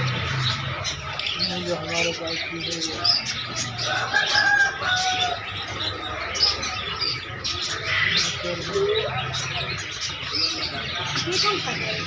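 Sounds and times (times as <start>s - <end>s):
background hubbub: 0.0s - 12.0s
caged birds chirping: 0.0s - 12.0s.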